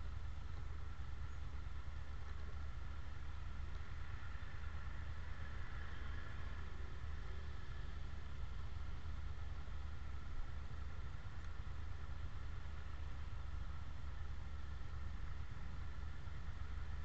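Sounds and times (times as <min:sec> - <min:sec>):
motorcycle and car engines idling: 0:00.0 - 0:17.0.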